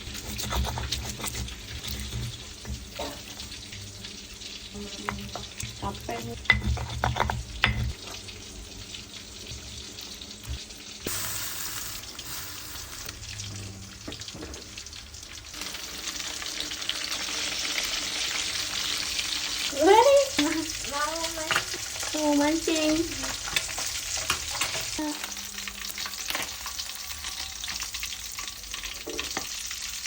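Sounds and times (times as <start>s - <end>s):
fish sizzling in hot oil: 0.0s - 30.0s.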